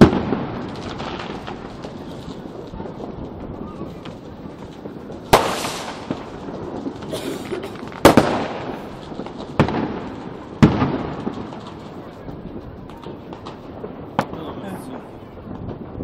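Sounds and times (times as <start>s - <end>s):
distant pops and crackles: 0.0s - 16.0s
fireworks bangs with echoing rumble: 0.0s - 16.0s.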